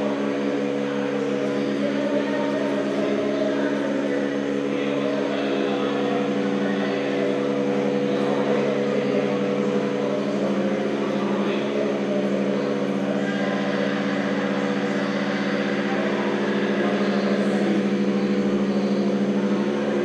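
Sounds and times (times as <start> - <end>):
electronic drone chord: 0.0 - 20.0.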